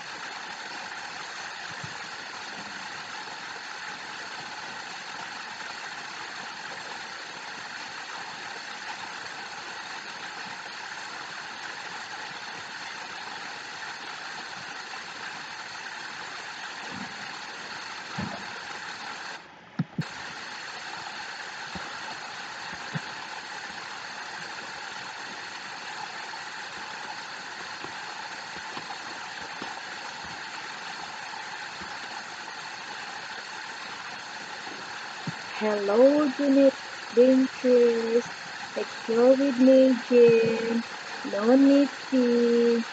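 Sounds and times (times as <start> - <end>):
falling water rushing: 0.0 - 42.9.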